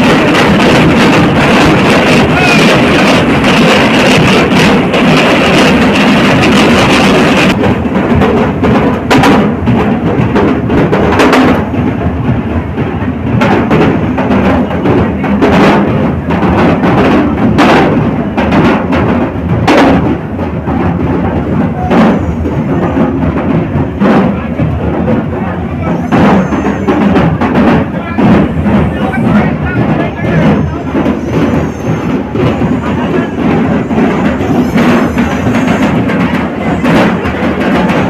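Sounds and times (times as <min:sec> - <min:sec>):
bass drums beaten loudly: 0:00.0 - 0:38.0.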